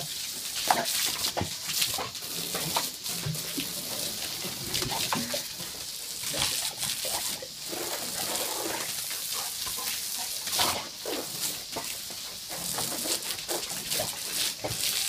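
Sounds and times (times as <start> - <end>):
hose spray hissing: 0.0 - 15.0.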